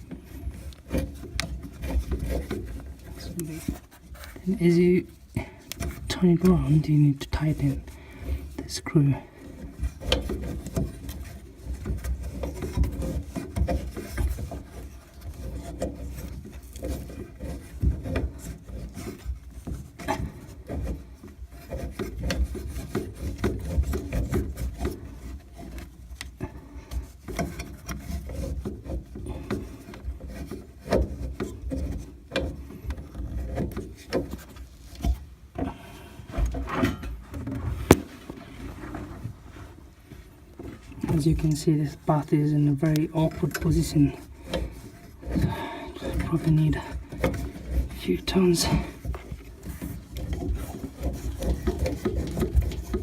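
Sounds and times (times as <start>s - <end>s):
pipe cutter scraping copper: 0.0s - 39.7s, 40.6s - 53.0s.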